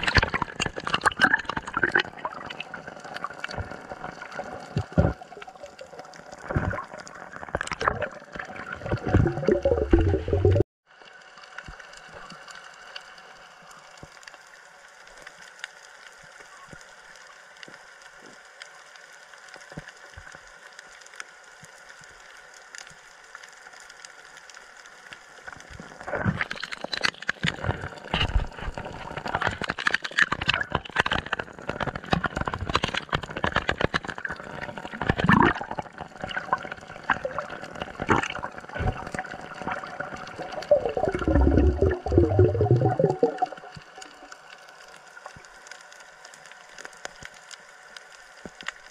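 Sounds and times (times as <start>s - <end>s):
sea water gurgling and splashing: 0.0s - 48.9s.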